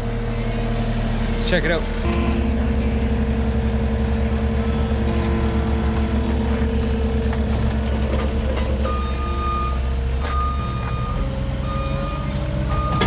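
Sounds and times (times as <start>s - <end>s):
diesel engine running under load: 0.0s - 13.0s
reversing alarm long beeps: 2.0s - 13.0s.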